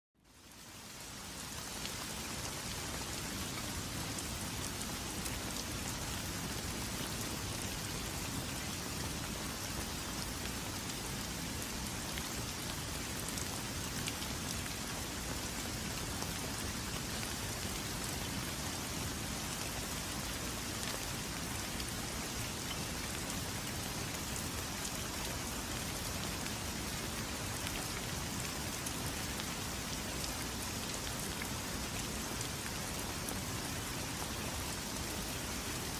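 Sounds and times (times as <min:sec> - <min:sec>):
faint ticks of raindrops: 0:00.2 - 0:35.9
steady rain hissing: 0:00.2 - 0:35.9.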